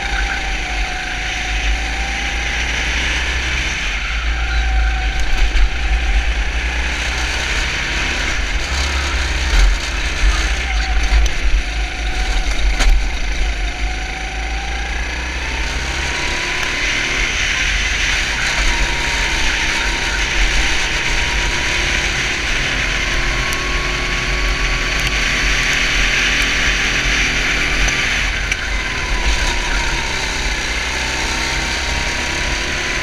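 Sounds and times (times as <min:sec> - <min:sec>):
kart engine racing: 0:00.0 - 0:33.0.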